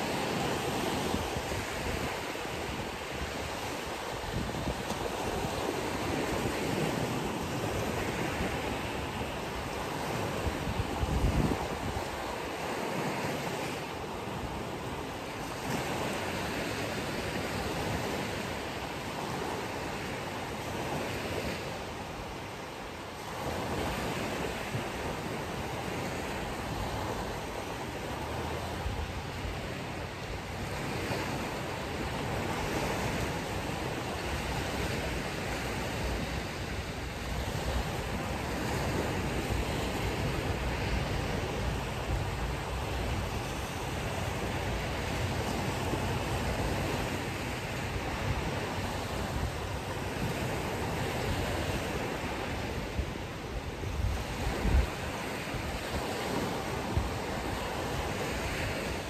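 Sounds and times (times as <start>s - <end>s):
ocean surf washing on shore: 0.0s - 59.0s
wind buffeting microphone: 0.0s - 59.0s.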